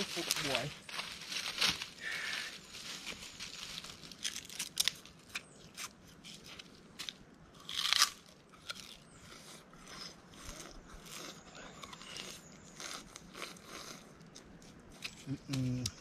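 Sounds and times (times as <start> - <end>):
sugar cane crunching: 0.0 - 16.0.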